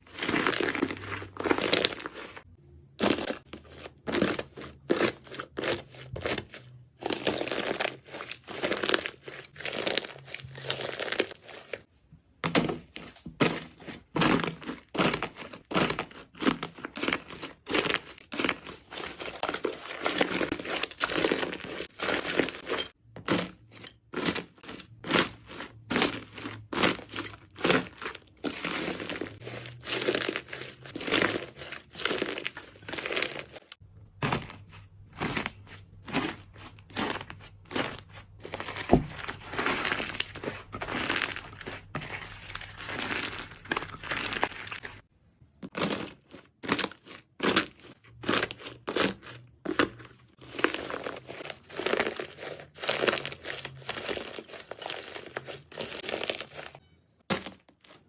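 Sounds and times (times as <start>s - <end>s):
slime squishing and crackling: 0.0s - 58.0s.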